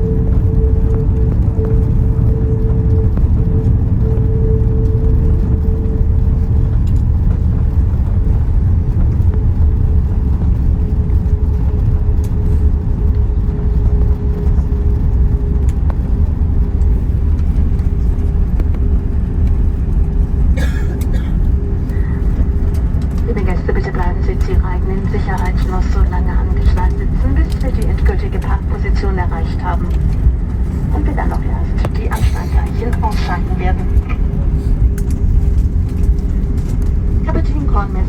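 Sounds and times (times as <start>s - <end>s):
airliner cabin rumble: 0.0s - 38.0s
jet engine whine: 0.0s - 38.0s.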